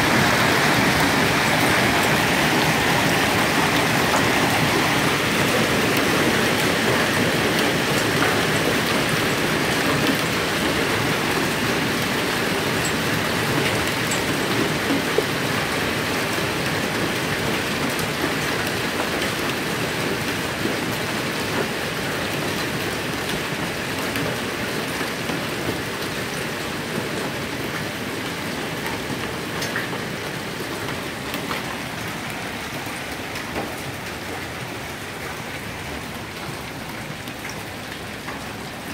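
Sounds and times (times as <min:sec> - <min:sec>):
hail and heavy rain pelting: 0:00.0 - 0:38.9.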